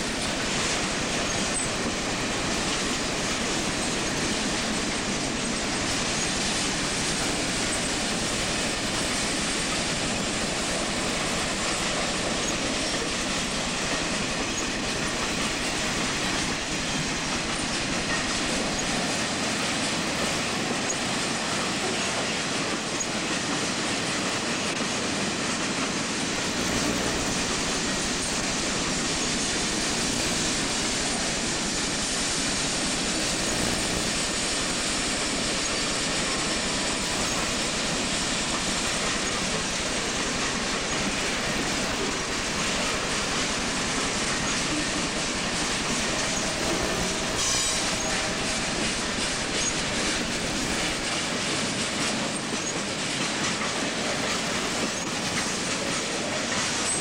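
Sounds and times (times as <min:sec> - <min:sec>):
freight train cars rolling: 0:00.0 - 0:57.0.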